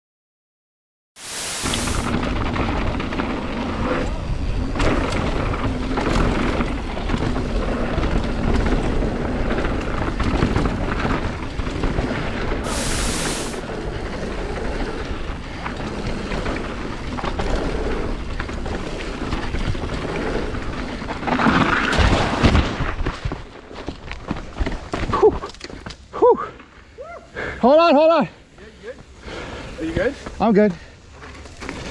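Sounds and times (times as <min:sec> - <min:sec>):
bike rattling over rough ground: 0:02.0 - 0:12.7, 0:13.6 - 0:26.1, 0:29.5 - 0:31.9.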